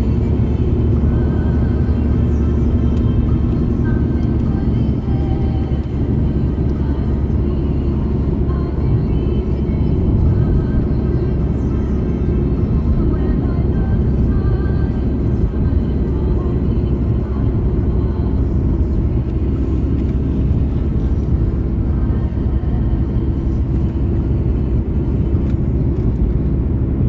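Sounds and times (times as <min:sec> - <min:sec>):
diesel engine cabin drone: 0:00.0 - 0:27.0
road and wind noise: 0:00.0 - 0:27.0.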